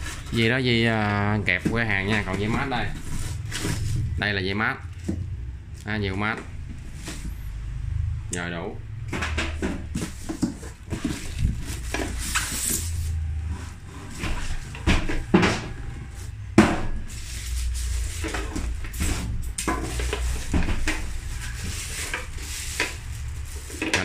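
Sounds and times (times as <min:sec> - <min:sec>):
cardboard and plastic rustling: 0:00.0 - 0:07.6, 0:09.2 - 0:24.0.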